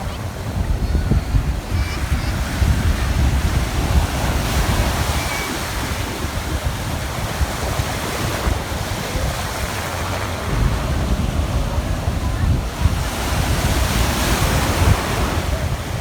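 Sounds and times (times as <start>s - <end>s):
sea waves breaking: 0.0s - 16.0s
wind buffeting microphone: 0.0s - 16.0s.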